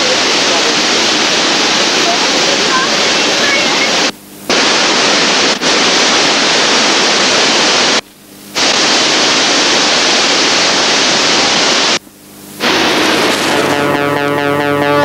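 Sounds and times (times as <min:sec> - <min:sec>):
loud rush of waterfall: 0:00.0 - 0:08.0, 0:08.6 - 0:12.0, 0:12.6 - 0:15.0.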